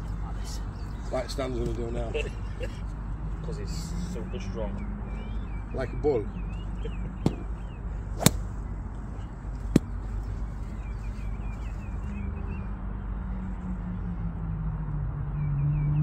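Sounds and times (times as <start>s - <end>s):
small birds chirping: 0.0s - 12.8s
low outdoor rumble: 0.0s - 14.4s.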